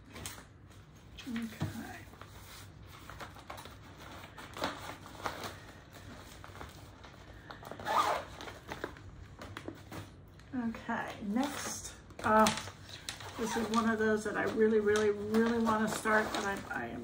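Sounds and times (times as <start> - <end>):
plastic bag crinkling: 1.2 - 17.0.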